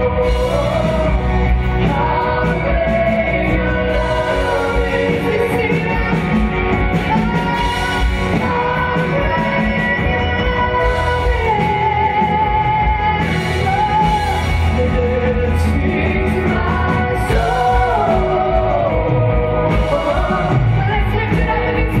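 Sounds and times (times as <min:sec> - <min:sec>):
singers holding long notes: 0:00.0 - 0:22.0.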